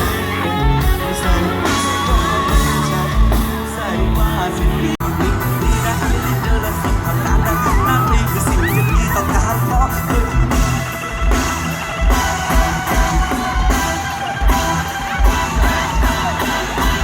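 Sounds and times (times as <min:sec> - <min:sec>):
band music: 0:00.0 - 0:17.0.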